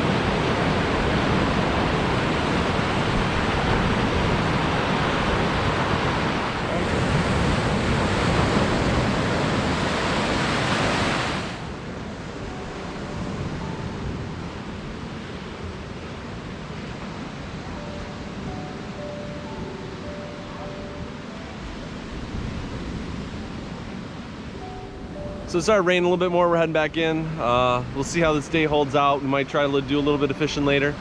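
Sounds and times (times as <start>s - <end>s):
wind buffeting microphone: 0.0s - 25.5s
surf washing onto shore: 0.0s - 31.0s.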